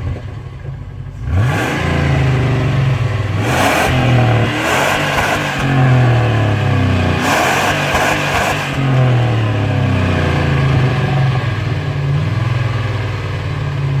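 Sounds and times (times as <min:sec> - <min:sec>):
car exhaust running above idle: 0:00.0 - 0:14.0.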